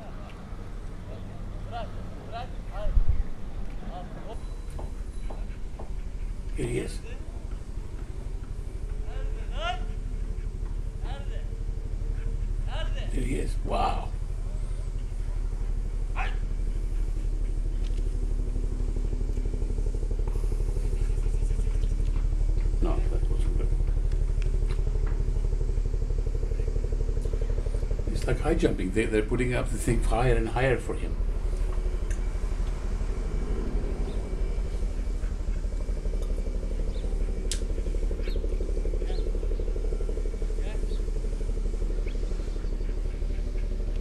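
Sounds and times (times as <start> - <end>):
motor engine throbbing: 0.0 - 44.0.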